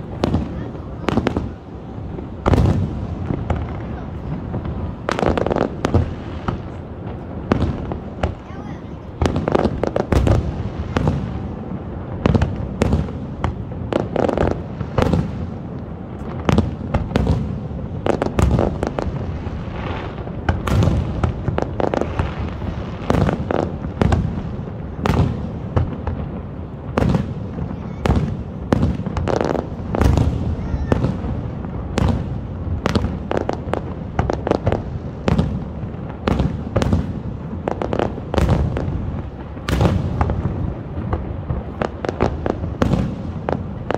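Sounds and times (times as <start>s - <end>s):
fireworks bangs: 0.0s - 43.9s
fireworks rumble and crackle: 0.0s - 43.9s.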